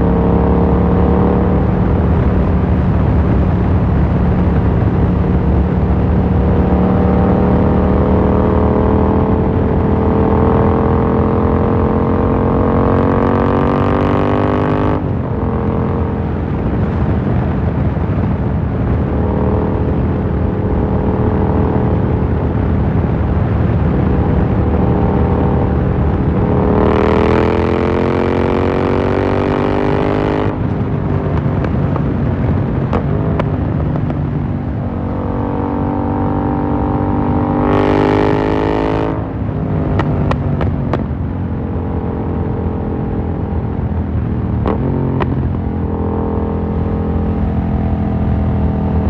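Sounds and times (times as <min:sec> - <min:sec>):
motorcycle engine revving: 0:00.0 - 0:16.6, 0:18.8 - 0:49.0.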